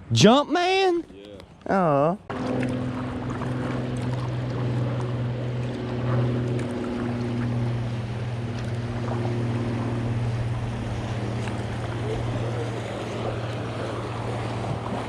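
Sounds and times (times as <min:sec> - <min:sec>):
water noise: 0:00.0 - 0:15.0.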